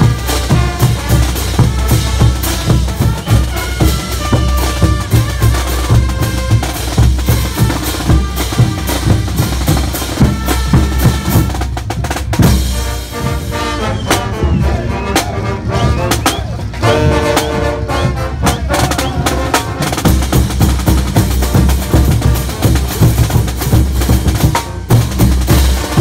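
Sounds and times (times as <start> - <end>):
bass drums: 0.0 - 26.0
snare drum: 0.0 - 26.0
street brass band playing: 0.0 - 26.0
trumpets playing melody: 0.0 - 26.0.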